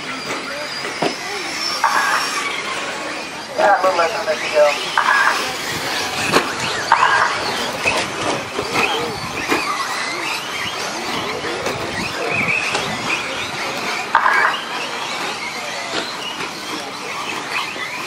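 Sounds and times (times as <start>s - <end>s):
electric motors whining: 0.0s - 18.0s
harsh buzz: 0.8s - 18.0s.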